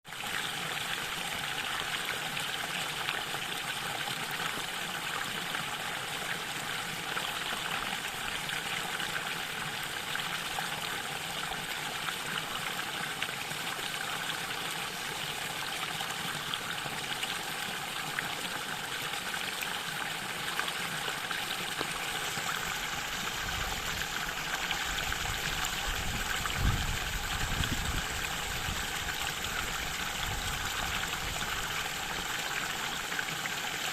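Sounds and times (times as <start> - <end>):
stream flowing over rocks: 0.1 - 33.9.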